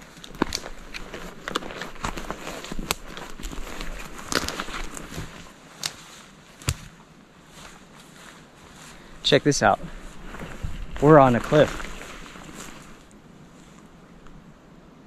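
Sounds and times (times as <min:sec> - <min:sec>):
twigs cracking underfoot: 0:00.0 - 0:09.2, 0:09.8 - 0:13.2
footsteps on forest floor: 0:00.0 - 0:13.8.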